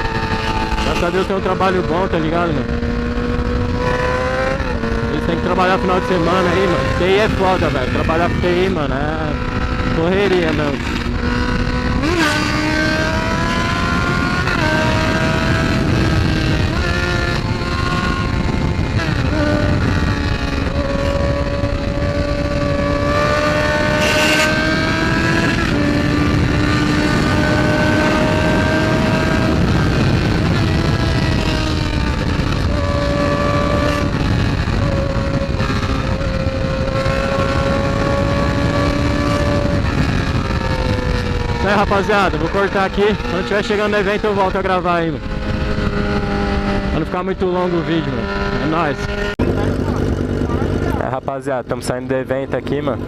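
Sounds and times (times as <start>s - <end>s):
motorcycle engine cruising: 0.0s - 53.0s
wind noise on microphone: 0.0s - 53.0s.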